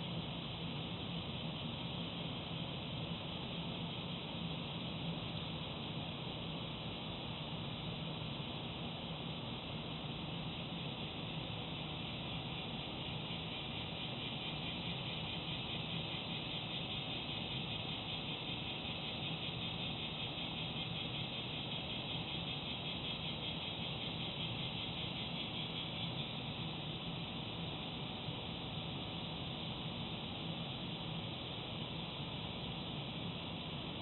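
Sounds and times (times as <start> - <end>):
insects chirring: 0.0 - 34.0
low steady hum: 0.0 - 34.0.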